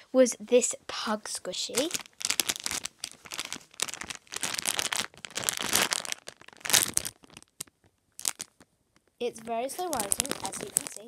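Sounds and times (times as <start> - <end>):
plastic bag crinkling: 1.6 - 11.0.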